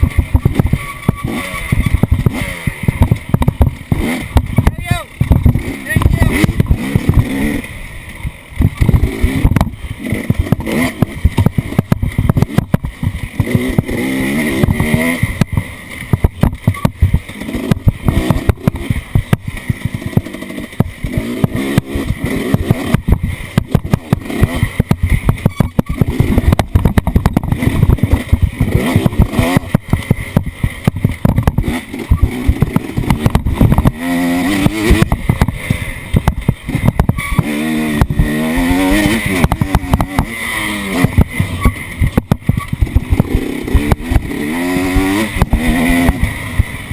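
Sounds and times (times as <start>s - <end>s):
buffeting rumble: 0.0s - 46.9s
off-road vehicle engine revving: 0.0s - 46.9s.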